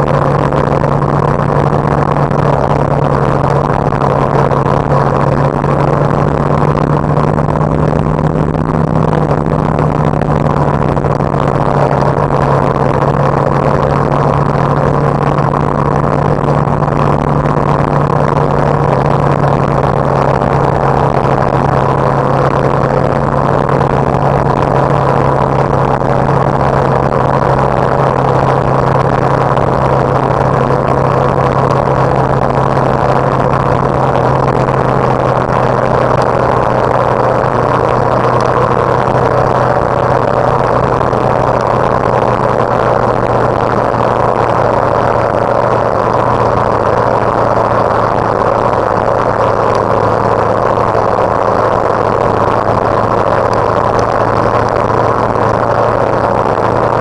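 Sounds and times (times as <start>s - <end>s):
road noise in tunnel: 0.0s - 57.0s
vehicle engine hum: 0.0s - 57.0s.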